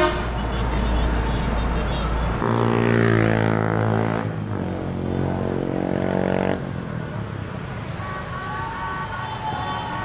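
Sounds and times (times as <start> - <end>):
motorbike traffic: 0.0 - 10.0.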